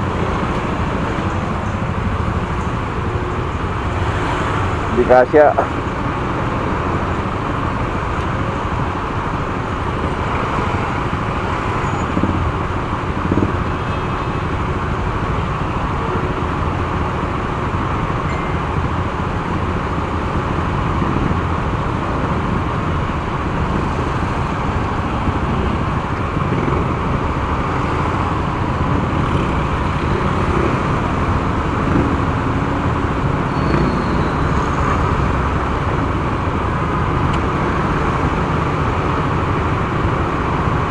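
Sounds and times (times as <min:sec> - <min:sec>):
motorcycle engine: 0:00.0 - 0:40.9
traffic: 0:00.0 - 0:40.9
tyre road noise: 0:00.0 - 0:40.9
wind: 0:00.0 - 0:40.9.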